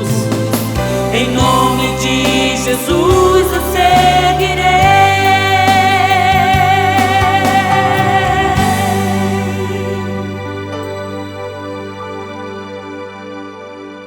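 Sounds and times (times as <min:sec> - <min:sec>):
band playing gospel music: 0:00.0 - 0:12.6.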